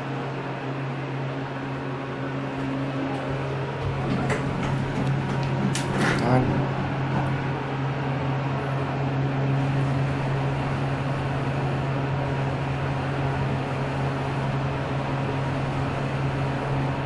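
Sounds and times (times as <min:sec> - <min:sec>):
elevator low hum: 0:00.0 - 0:17.0
rushing noise of elevator ride: 0:00.0 - 0:17.0.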